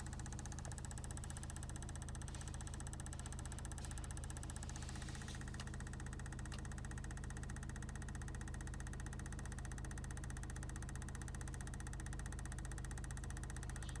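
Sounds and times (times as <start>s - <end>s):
car engine idling with knocking: 0.0s - 14.0s.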